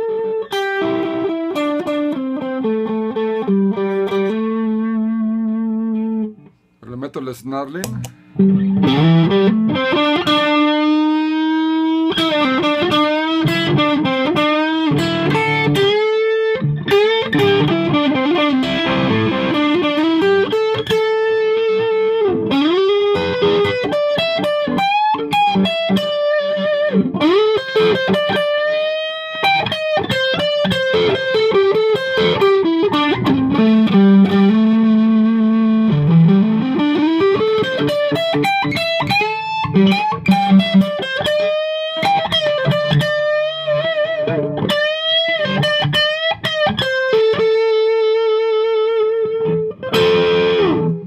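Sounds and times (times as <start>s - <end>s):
distorted electric guitar lead: 7.7s - 51.0s.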